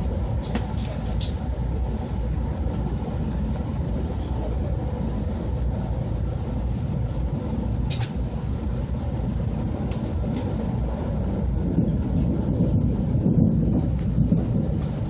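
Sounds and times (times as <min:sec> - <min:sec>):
train rumble inside car: 0:00.0 - 0:15.0.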